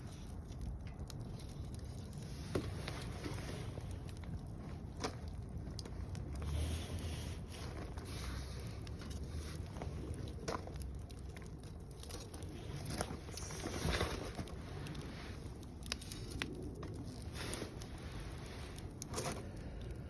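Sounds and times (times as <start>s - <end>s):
fire low rumble: 0.0s - 20.0s
wood fire crackling and popping: 0.0s - 20.0s.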